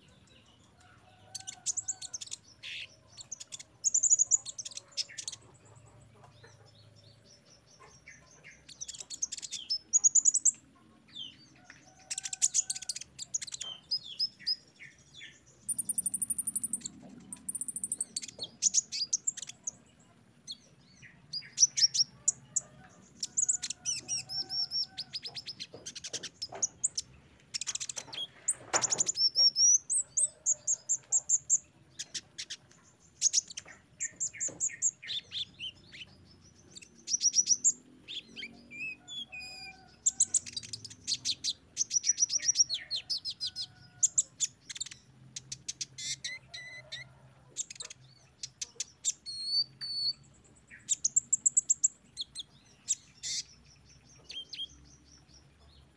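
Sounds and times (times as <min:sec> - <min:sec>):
sunbird chirps and trills: 0:00.0 - 0:55.9.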